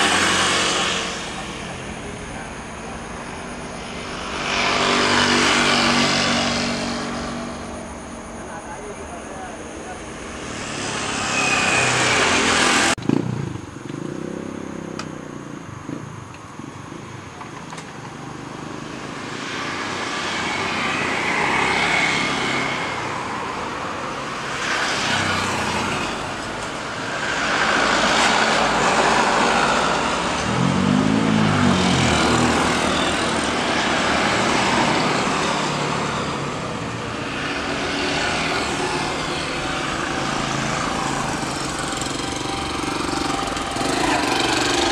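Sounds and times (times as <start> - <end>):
jet engines roaring: 0.0 - 13.1, 17.7 - 44.9.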